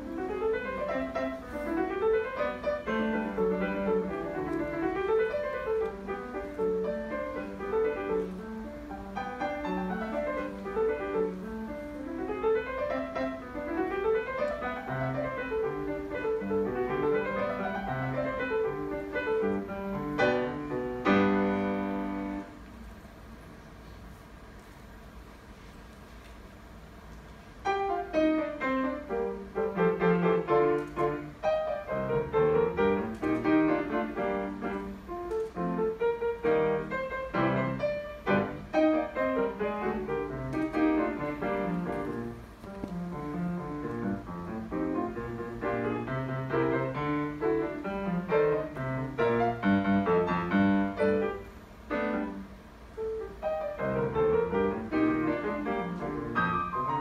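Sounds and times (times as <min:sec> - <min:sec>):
solo piano classical piece: 0:00.0 - 0:57.0.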